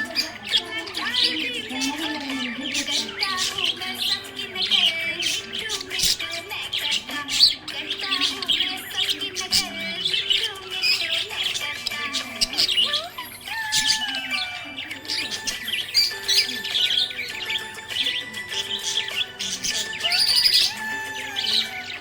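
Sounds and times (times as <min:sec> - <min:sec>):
budgerigar squawks: 0:00.0 - 0:22.0
budgerigars chirping and warbling: 0:00.0 - 0:22.0.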